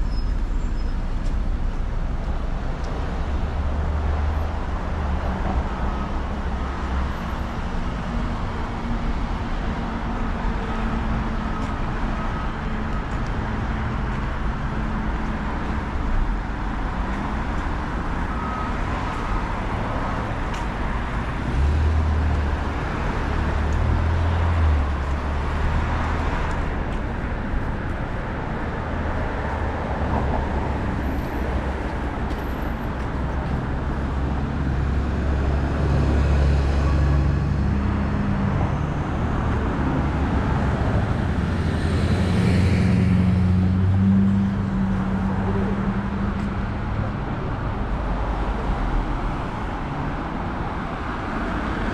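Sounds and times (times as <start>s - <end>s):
traffic passing on city road: 0.0s - 51.9s.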